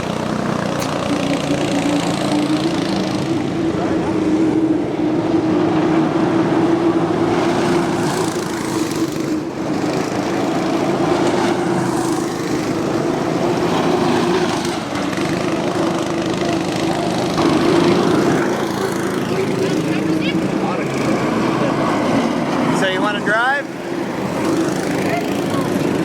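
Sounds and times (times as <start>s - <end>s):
small single-cylinder engine running: 0.0s - 5.0s, 6.1s - 26.0s.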